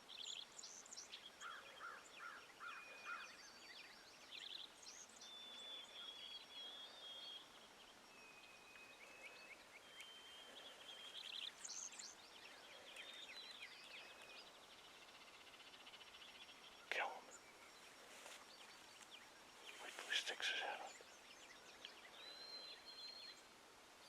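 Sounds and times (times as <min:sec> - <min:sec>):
faint songbirds singing: 0:00.0 - 0:24.0.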